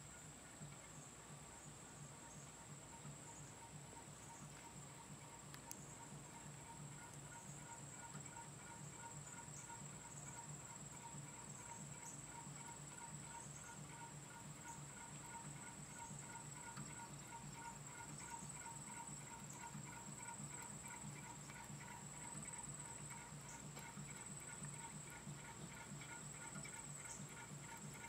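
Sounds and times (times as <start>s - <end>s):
small engine fan beating: 0.0s - 28.0s.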